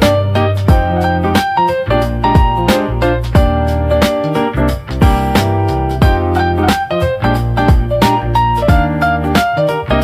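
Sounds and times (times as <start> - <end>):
upbeat song with keyboard and drums: 0.0 - 10.0.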